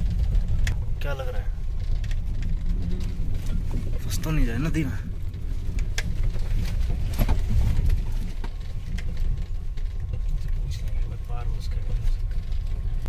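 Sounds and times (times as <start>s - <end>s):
engine and tyres rumbling: 0.0s - 13.0s
sharp knocks and rattles: 0.0s - 13.0s.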